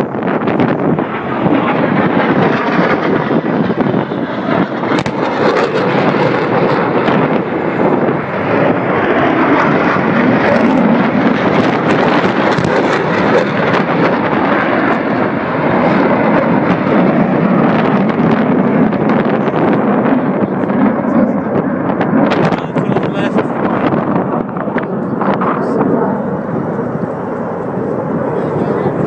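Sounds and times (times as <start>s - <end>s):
aircraft engine noise: 0.0s - 29.0s.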